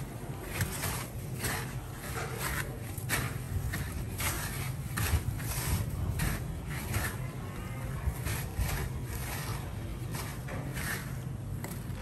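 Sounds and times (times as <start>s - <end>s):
breadcrumbs rustling and crunching: 0.0s - 12.0s.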